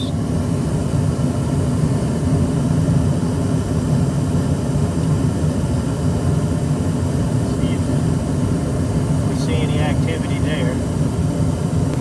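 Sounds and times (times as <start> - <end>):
gas furnace low rumble: 0.0 - 12.0.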